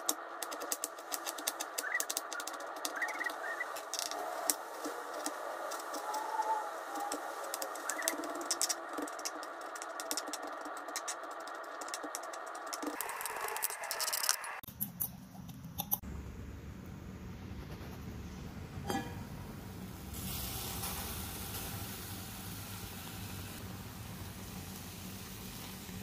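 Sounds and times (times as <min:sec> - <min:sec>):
pot hissing on stove: 0:00.0 - 0:14.6, 0:18.9 - 0:26.0.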